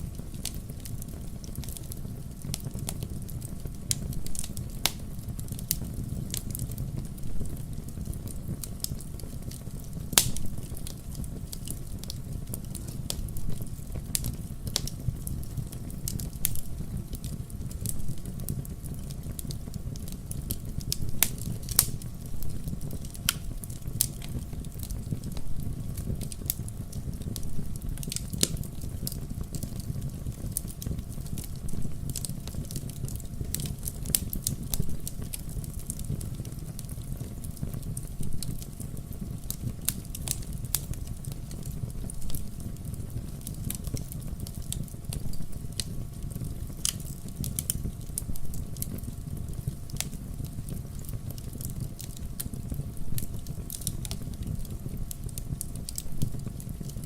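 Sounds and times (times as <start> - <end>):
low hiss of flames: 0.0 - 57.0
wood fire crackling and popping: 0.0 - 57.0.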